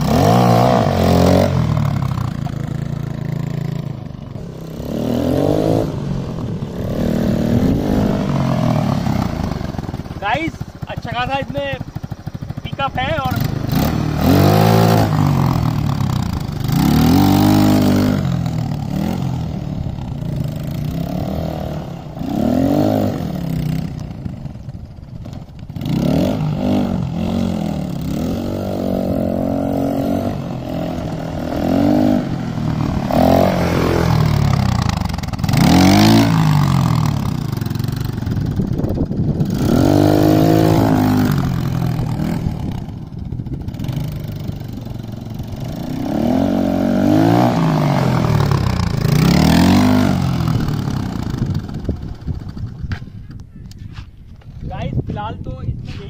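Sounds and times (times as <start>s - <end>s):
motorcycle engine revving: 0.0s - 53.8s.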